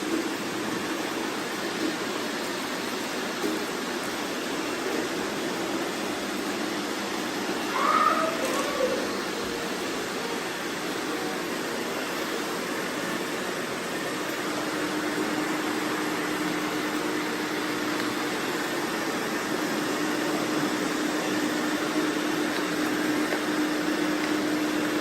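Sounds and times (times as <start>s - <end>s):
robot vacuum fan whirring: 0.0s - 25.0s
steady hum: 0.0s - 25.0s.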